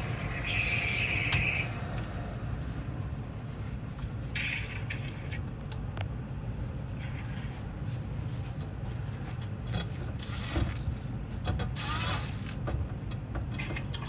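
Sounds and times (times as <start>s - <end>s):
gas furnace rumble: 0.0s - 14.0s.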